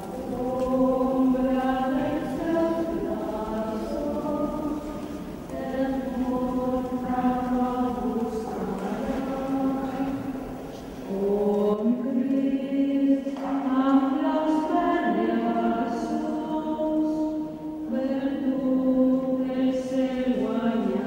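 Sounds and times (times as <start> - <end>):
women singing a hymn in unison: 0.0 - 21.0.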